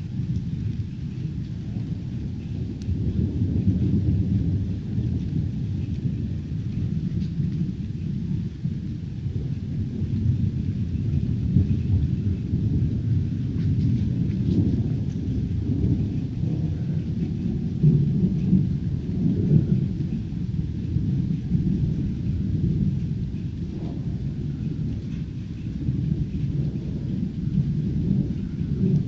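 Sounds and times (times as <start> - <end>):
faint rain hiss: 0.0 - 29.0
thunder rumbling: 0.0 - 29.0.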